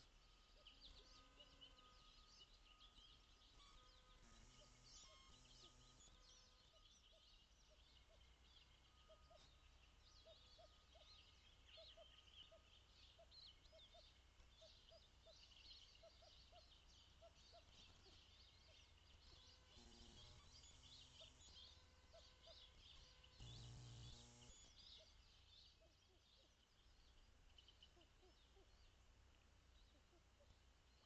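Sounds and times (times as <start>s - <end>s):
small birds chirping and singing: 0.0s - 31.0s
harsh bird calls: 3.1s - 29.0s.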